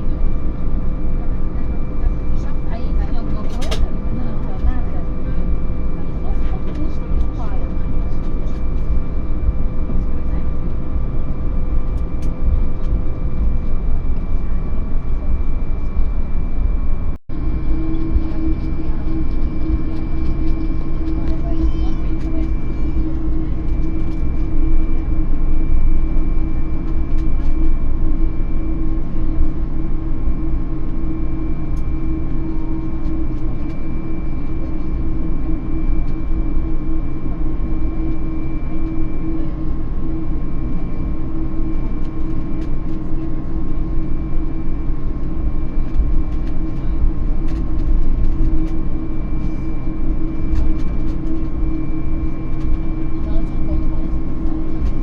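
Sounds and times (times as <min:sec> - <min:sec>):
airplane cabin engine noise: 0:00.0 - 0:55.0.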